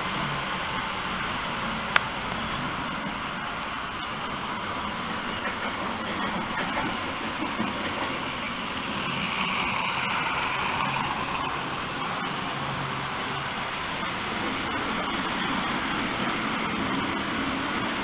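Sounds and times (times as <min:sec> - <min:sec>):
model train motor hum: 0:00.0 - 0:18.0.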